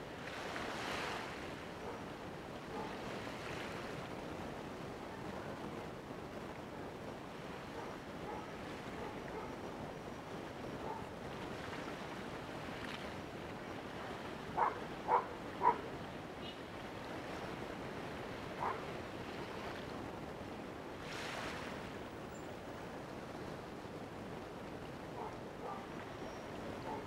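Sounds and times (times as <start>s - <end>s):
water at shoreline: 0.0s - 27.0s
wind: 0.0s - 27.0s.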